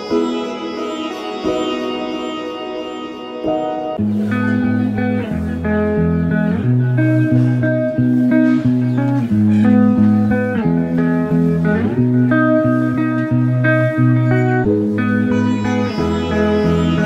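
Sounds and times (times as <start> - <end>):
plucked-string melody: 0.0 - 17.0.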